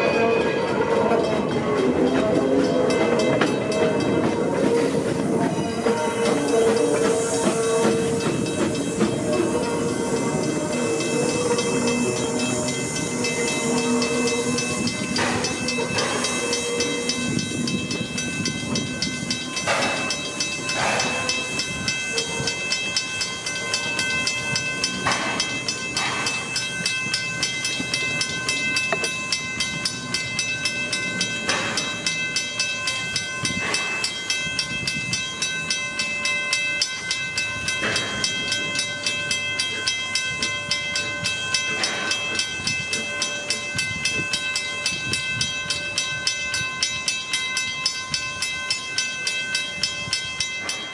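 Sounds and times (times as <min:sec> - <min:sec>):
train clattering on track: 0:00.0 - 0:50.9.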